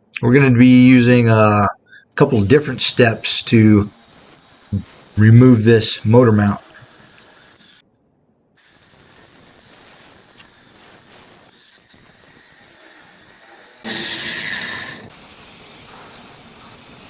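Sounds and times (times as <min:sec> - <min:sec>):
cutting torch hissing: 0:02.1 - 0:07.8, 0:08.6 - 0:17.0
cutting jet rush: 0:02.2 - 0:07.8, 0:08.6 - 0:17.0.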